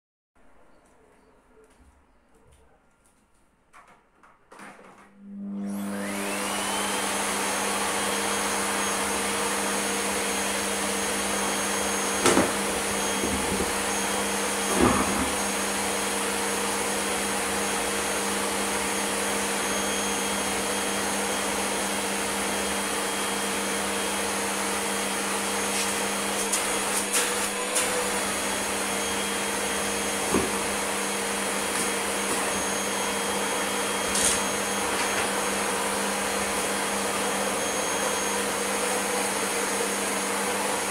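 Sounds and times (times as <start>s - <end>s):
vacuum cleaner whine: 4.7s - 40.9s.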